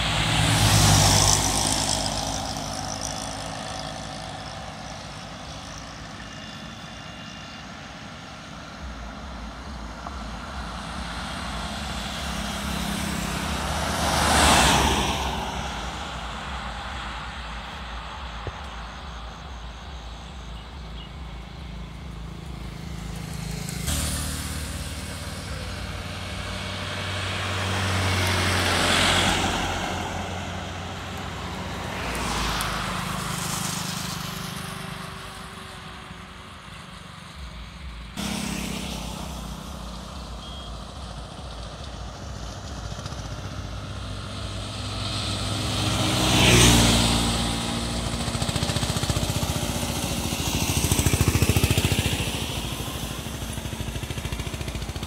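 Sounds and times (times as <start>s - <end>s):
vehicles swishing past: 0.0s - 55.0s.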